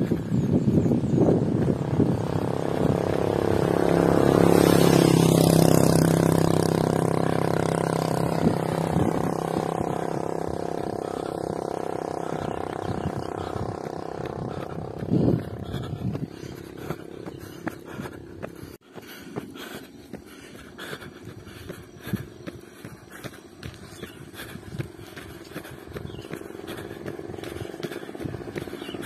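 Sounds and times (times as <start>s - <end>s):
small motorcycle engine passing: 0.0s - 29.0s.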